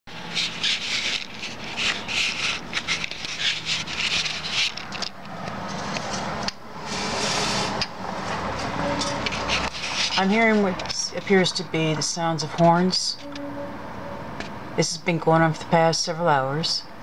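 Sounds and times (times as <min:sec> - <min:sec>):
rubbing and scraping handling noise: 0:00.1 - 0:13.7
street noise: 0:00.1 - 0:15.7.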